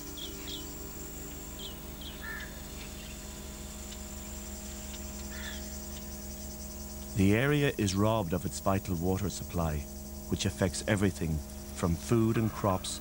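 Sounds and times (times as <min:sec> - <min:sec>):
insects trilling: 0:00.0 - 0:13.0
steady low hum: 0:00.0 - 0:13.0.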